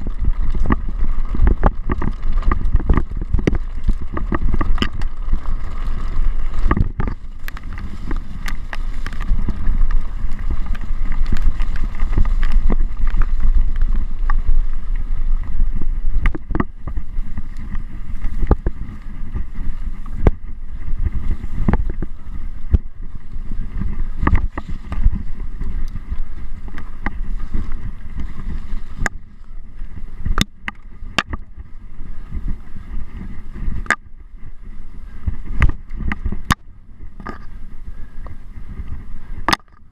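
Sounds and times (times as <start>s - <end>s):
bike rumbling on rough trail: 0.0s - 39.9s.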